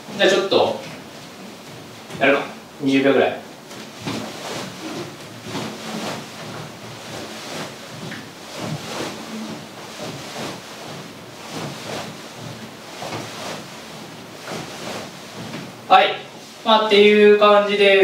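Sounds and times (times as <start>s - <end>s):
bare feet shifting on wooden floor: 0.1s - 2.7s, 3.5s - 16.7s.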